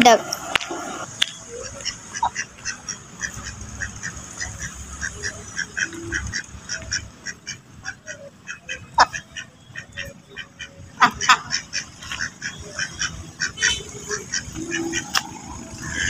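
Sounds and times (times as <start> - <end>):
ducks quacking: 0.4 - 16.0.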